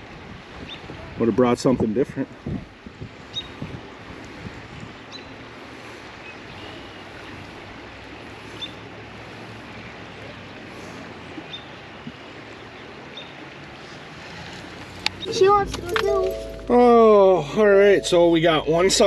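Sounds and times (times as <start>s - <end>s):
creek water flowing: 0.0s - 19.0s
wind: 0.0s - 19.0s.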